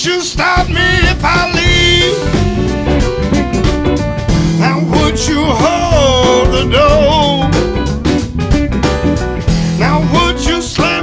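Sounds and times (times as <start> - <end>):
live blues-rock band playing: 0.0 - 11.0.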